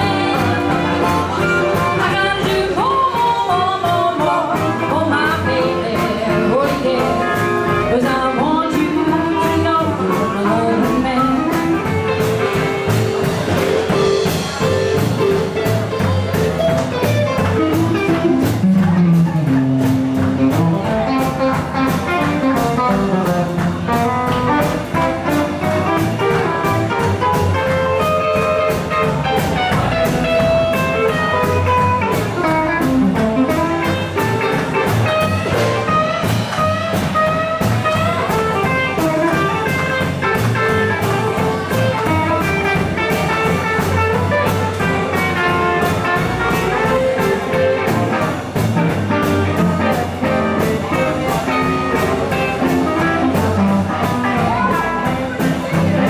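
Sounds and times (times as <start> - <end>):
acoustic guitar: 0.0 - 56.0
drum kit: 0.0 - 56.0
electric guitar: 0.0 - 56.0.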